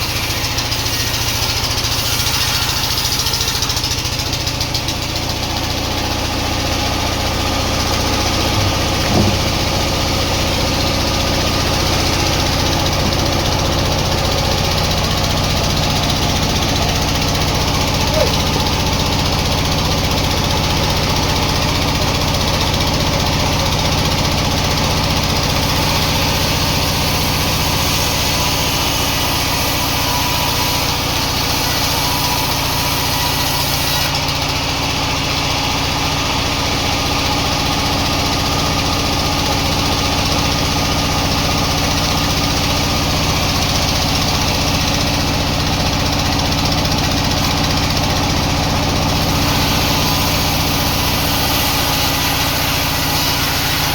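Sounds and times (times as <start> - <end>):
sawmill machinery hum: 0.0 - 53.9.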